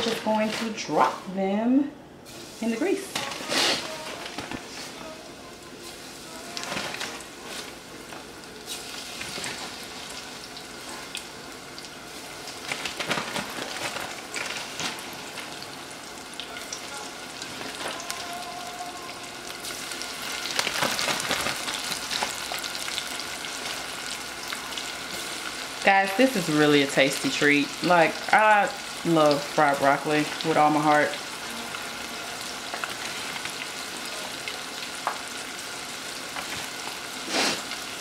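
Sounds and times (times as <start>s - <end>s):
food deep-frying in hot oil: 5.8s - 38.0s.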